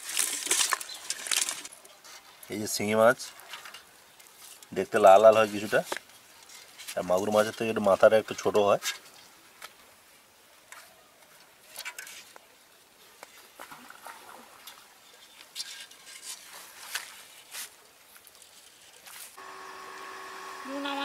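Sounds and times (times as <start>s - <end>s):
faint rustles and clicks: 0.0s - 2.6s, 3.2s - 13.8s, 15.1s - 19.4s.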